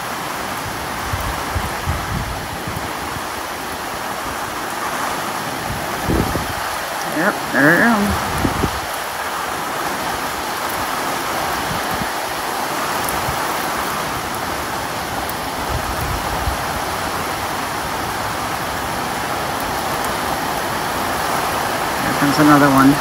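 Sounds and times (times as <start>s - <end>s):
heavy rain and wind rushing: 0.0s - 23.0s.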